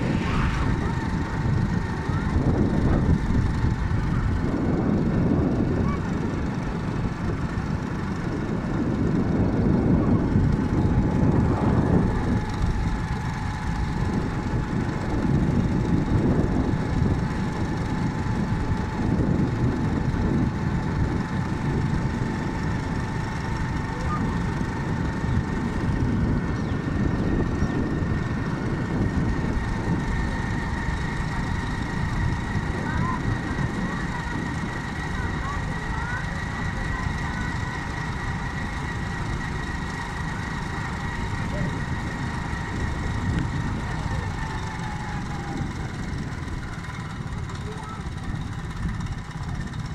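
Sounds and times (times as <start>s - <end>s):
engine and road rumble: 0.0s - 49.9s
faint steady whine: 0.0s - 49.9s.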